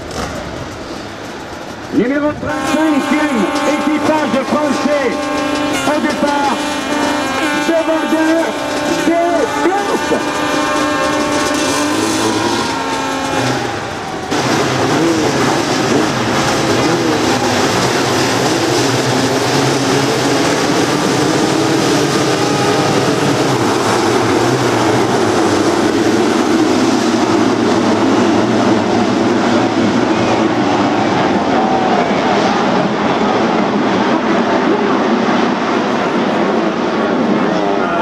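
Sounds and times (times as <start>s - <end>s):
drone of many racing engines: 0.0s - 38.0s
motorcycle engines revving: 0.0s - 38.0s.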